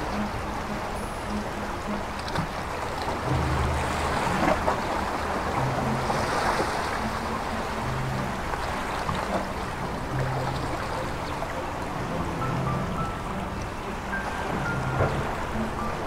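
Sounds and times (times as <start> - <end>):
sea waves breaking: 0.0 - 16.0
soft background music: 0.0 - 16.0.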